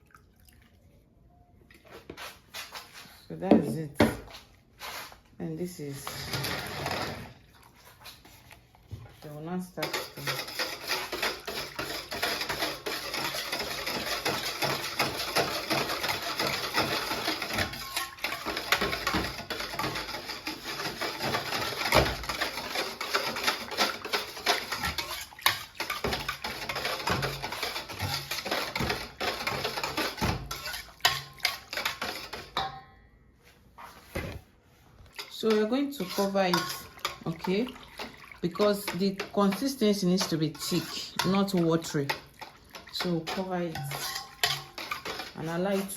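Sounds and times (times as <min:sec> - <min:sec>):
batter stirred in a bowl: 0:01.8 - 0:32.6, 0:35.0 - 0:45.9.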